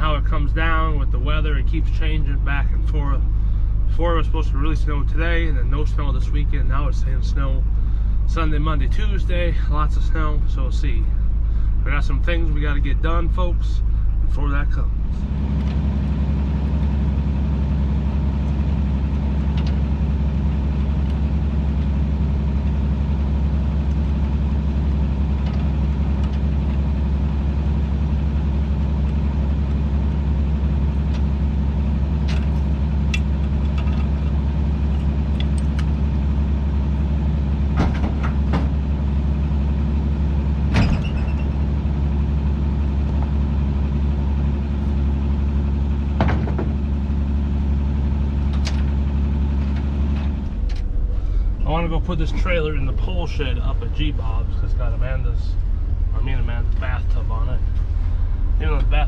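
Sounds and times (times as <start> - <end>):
vehicle engine running steadily: 0.0 - 59.0.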